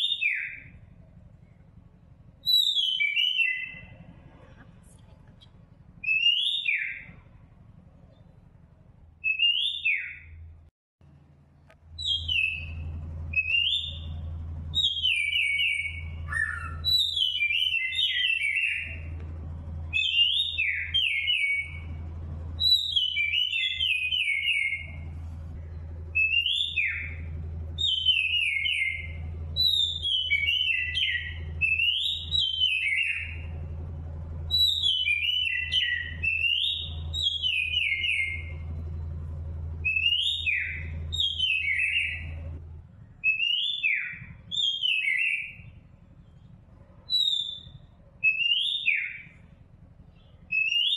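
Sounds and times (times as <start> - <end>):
birds whistling: 0.0 - 0.8, 2.4 - 4.2, 6.0 - 7.3, 9.2 - 10.4, 12.0 - 19.2, 19.8 - 33.8, 34.4 - 39.1, 39.7 - 50.9
steady low hum: 0.0 - 50.9.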